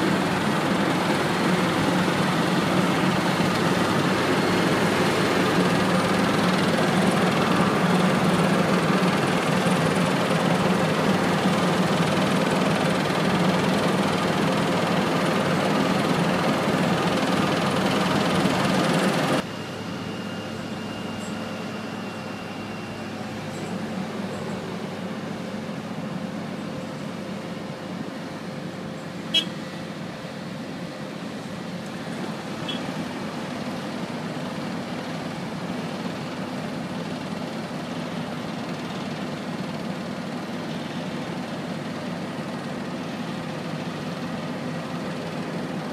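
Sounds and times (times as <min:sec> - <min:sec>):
diesel engine running: 0:00.0 - 0:45.9
machinery hum: 0:00.0 - 0:45.9.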